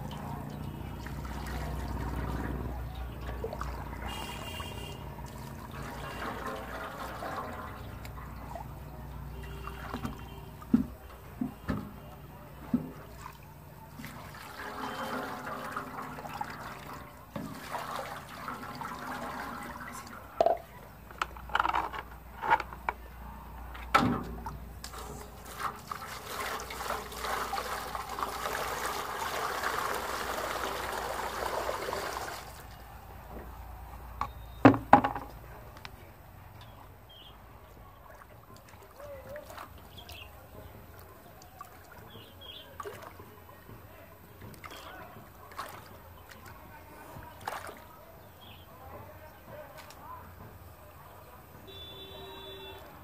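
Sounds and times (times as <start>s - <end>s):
water pouring and splashing in tub: 0.0s - 21.7s, 24.2s - 32.8s, 37.9s - 53.0s.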